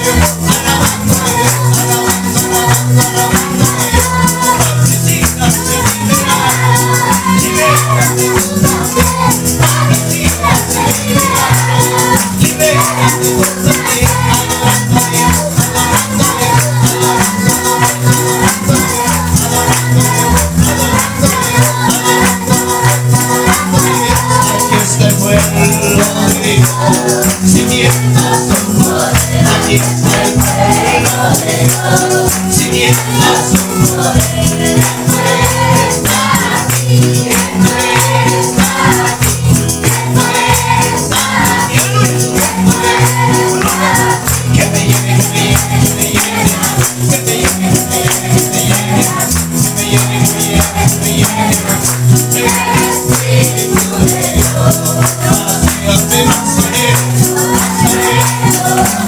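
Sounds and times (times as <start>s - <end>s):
congregation singing: 0.0s - 59.0s
guitar: 0.0s - 59.0s
tambourine jingling: 0.0s - 59.0s.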